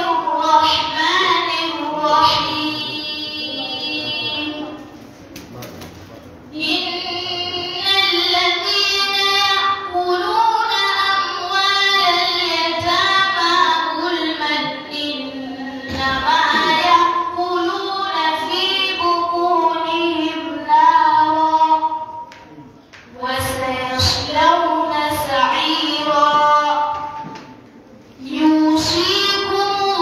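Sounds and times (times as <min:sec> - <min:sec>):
woman chanting melodically: 0:00.0 - 0:05.0, 0:06.5 - 0:22.3, 0:23.1 - 0:27.6, 0:28.2 - 0:30.0.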